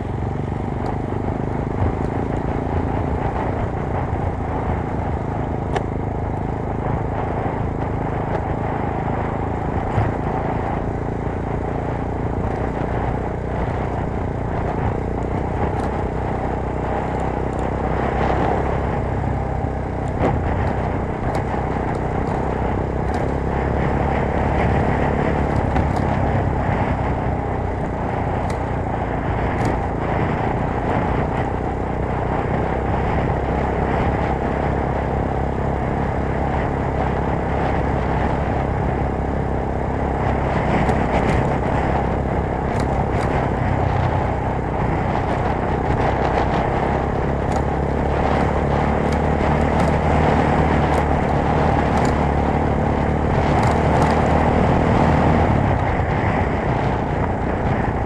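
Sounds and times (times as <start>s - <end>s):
continuous rushing noise: 0.0s - 58.0s
motorcycle engine running: 0.0s - 58.0s.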